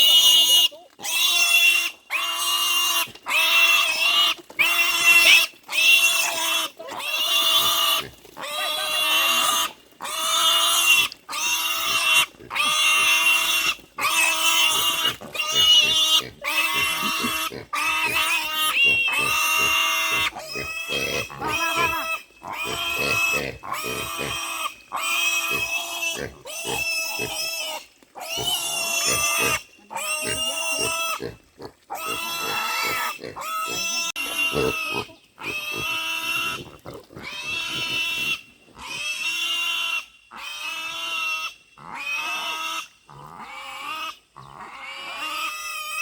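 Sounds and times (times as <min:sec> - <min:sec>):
piglets squealing: 0:00.0 - 0:46.0.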